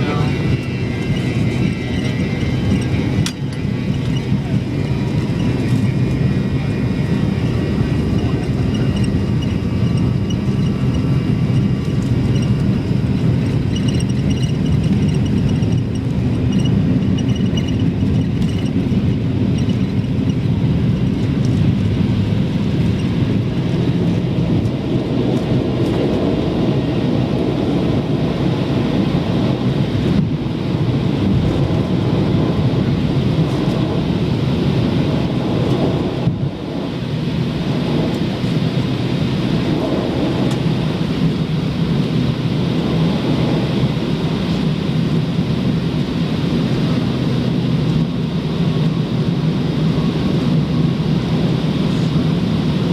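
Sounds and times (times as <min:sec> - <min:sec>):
airplane cabin engine rumble: 0:00.0 - 0:52.9
faint whining engine tones: 0:00.0 - 0:52.9.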